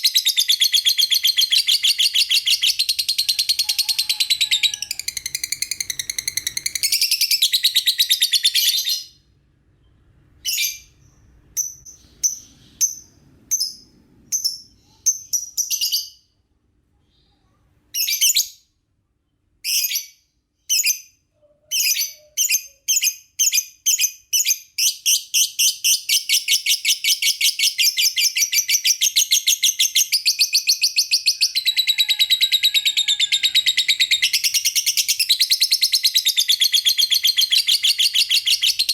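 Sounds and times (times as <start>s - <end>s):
lovebird chirping: 0.0s - 16.3s, 19.6s - 38.9s.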